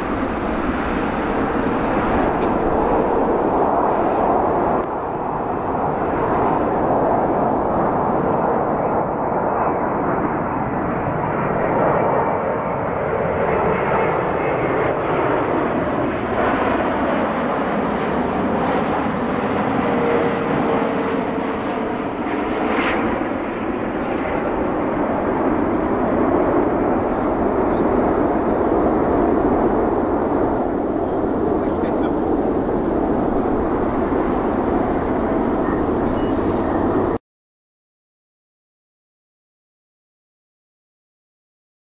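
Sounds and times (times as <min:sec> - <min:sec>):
jet airliner rumble and whine: 0:00.0 - 0:37.2.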